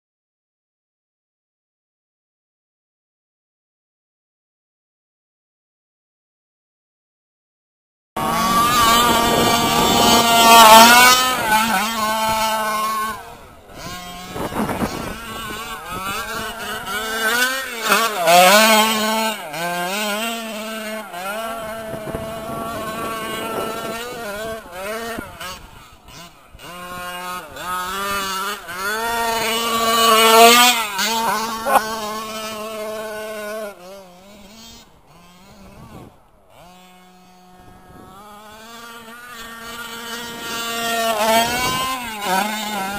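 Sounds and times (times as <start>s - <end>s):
rc truck engine revving: 8.2s - 42.9s.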